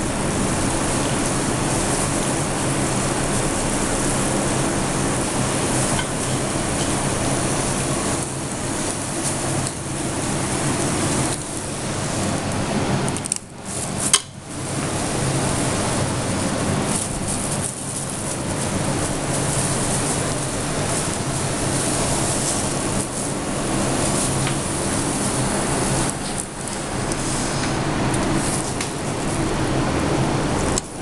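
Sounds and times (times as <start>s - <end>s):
rushing kitchen noise: 0.0s - 31.0s.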